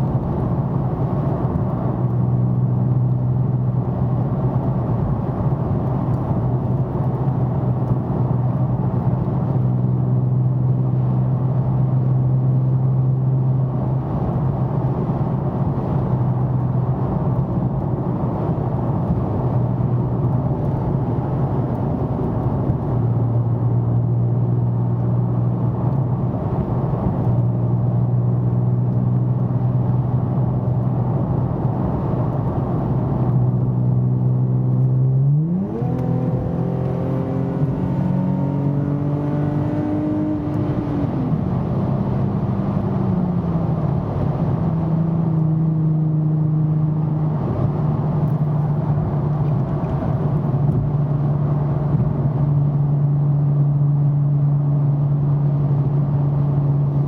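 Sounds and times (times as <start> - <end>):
car engine drone from cabin: 0.0 - 57.0.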